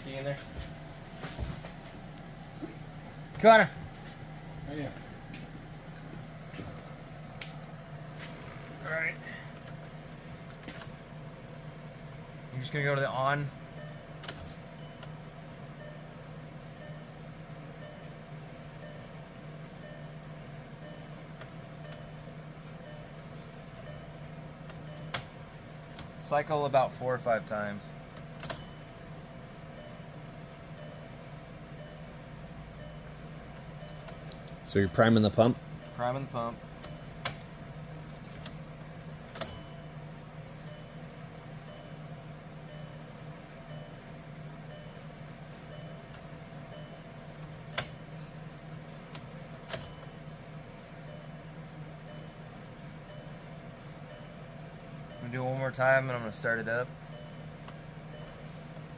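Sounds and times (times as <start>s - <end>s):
dashboard warning chime: 0.0s - 58.9s
steady low hum: 0.0s - 58.9s.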